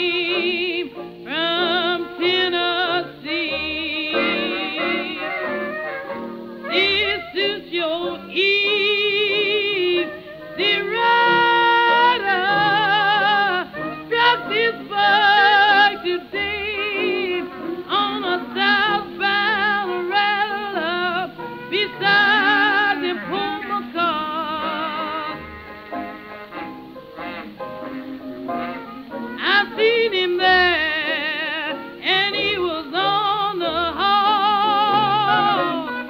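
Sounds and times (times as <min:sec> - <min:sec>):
old blues band instrumental: 0:00.0 - 0:36.0.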